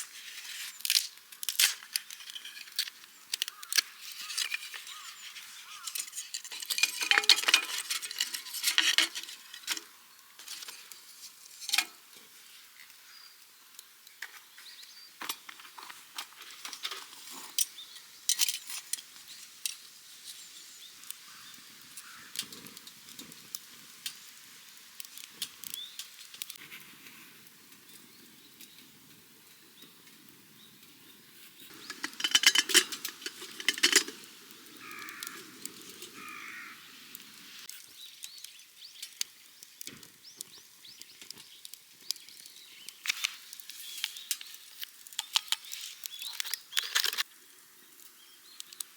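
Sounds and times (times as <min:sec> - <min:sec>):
wood fire crackling and popping: 0:00.0 - 0:20.4, 0:21.0 - 0:29.2, 0:31.7 - 0:48.9.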